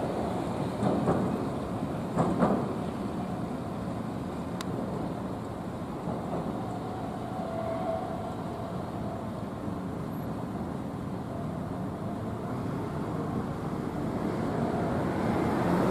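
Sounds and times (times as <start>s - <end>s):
city street traffic: 0.0s - 15.9s
streetcar rumbling on tracks: 0.0s - 15.9s.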